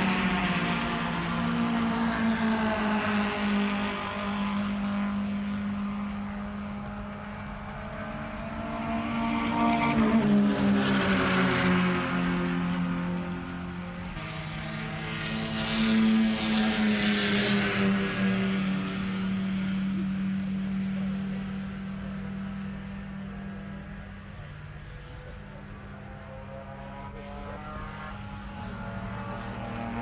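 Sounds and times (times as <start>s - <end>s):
race car engines passing: 0.0s - 30.0s.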